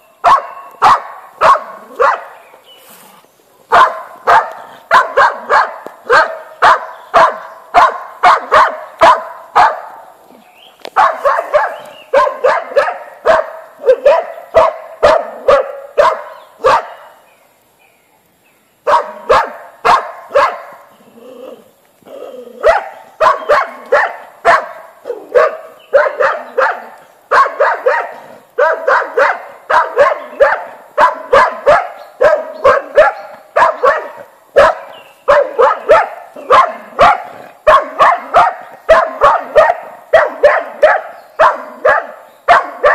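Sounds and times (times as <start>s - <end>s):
dog barking: 0.2s - 2.3s, 3.7s - 10.0s, 11.0s - 17.2s, 18.9s - 20.8s, 22.6s - 42.9s.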